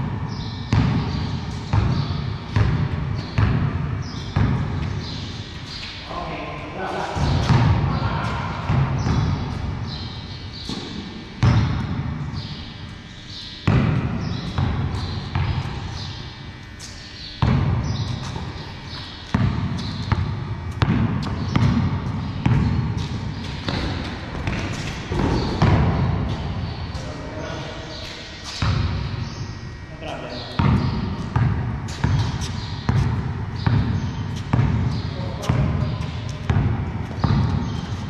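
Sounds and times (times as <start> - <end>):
basketball bouncing on concrete: 0.0 - 5.2, 7.2 - 12.6, 13.4 - 16.2, 17.3 - 26.5, 28.5 - 29.1, 30.6 - 38.0.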